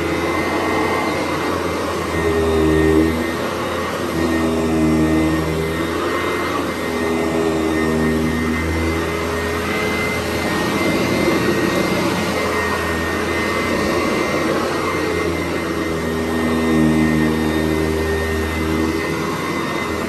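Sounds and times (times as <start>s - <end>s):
upright vacuum motor whine: 0.0s - 20.0s.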